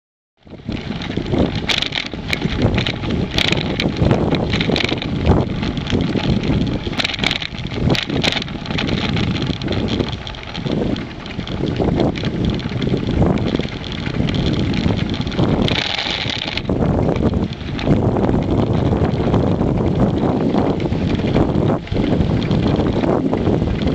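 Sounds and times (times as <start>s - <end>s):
bicycle rattling: 0.4s - 23.9s
tyre road rumble: 0.4s - 23.9s
wind buffeting microphone: 0.4s - 23.9s.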